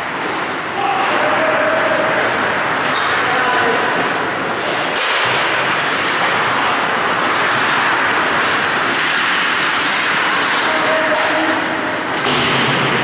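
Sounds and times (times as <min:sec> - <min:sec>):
ice hockey play on rink: 0:00.0 - 0:13.0
skates scraping ice: 0:02.1 - 0:13.0.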